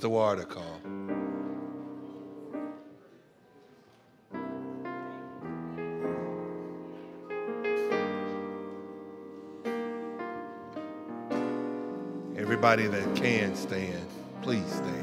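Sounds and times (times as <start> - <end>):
slow piano chords: 0.0 - 3.1, 4.3 - 15.0.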